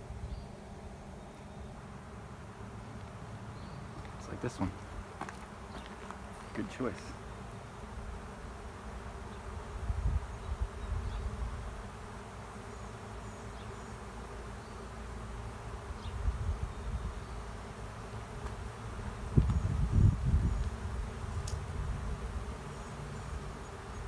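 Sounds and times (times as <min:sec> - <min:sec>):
bee swarm buzzing: 0:00.0 - 0:24.0.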